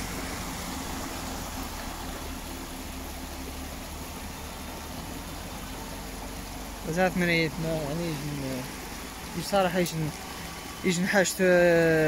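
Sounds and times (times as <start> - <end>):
floodwater rushing: 0.0 - 12.0
vehicle engine hum: 0.0 - 12.0.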